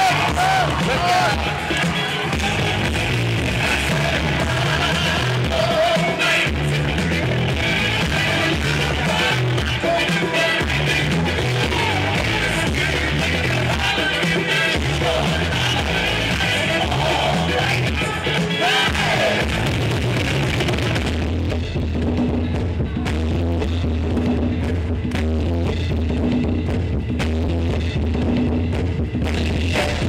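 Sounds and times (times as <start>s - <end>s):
drum-heavy music over sound system: 0.0s - 30.0s.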